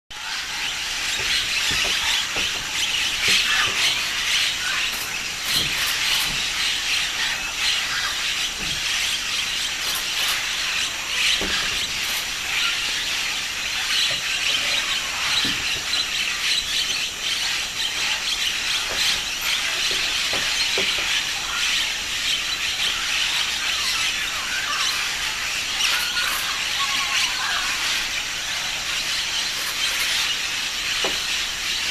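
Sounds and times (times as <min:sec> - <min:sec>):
parrots squawking: 0:00.2 - 0:31.9.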